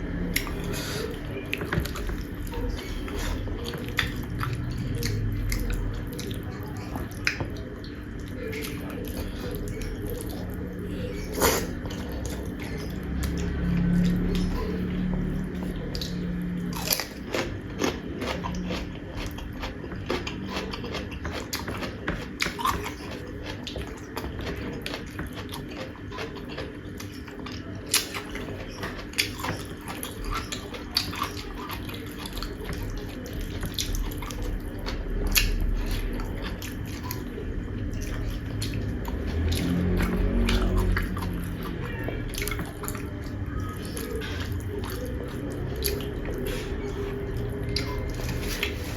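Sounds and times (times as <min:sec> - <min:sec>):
chewing with mouth clicks: 0:00.0 - 0:48.9.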